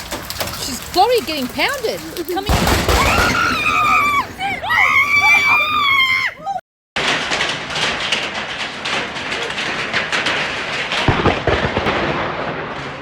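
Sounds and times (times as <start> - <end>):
heavy rain pounding: 0.0 - 6.0, 7.0 - 13.0
thunder rumble: 0.0 - 6.1, 7.0 - 13.0.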